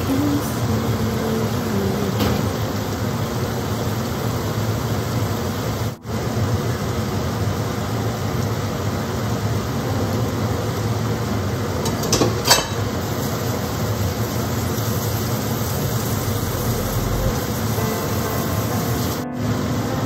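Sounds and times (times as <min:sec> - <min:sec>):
range hood fan whooshing: 0:00.0 - 0:20.0.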